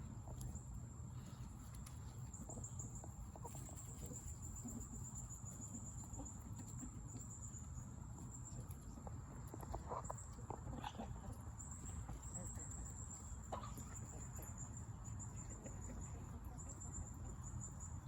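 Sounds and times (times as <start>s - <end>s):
chickens clucking faintly: 0.0s - 18.0s
chickens pecking: 0.0s - 18.0s.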